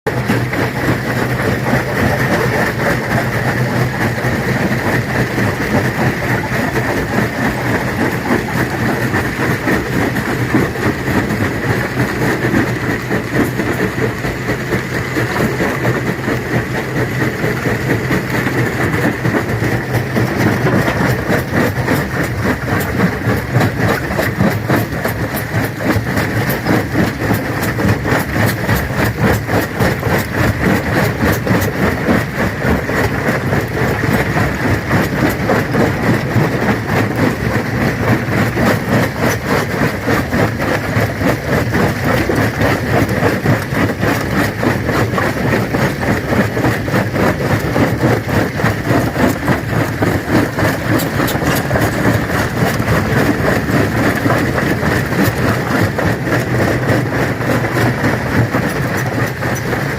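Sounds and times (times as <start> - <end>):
rocks clattering and crunching: 0.1 - 59.9
stone crusher drone: 0.1 - 59.9.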